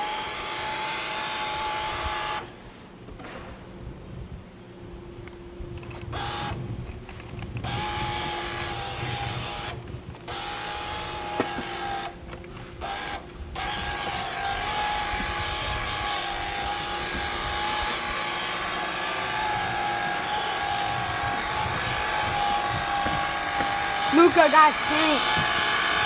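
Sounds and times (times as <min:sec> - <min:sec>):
small electric motor whining: 0:00.0 - 0:02.6, 0:05.7 - 0:26.0.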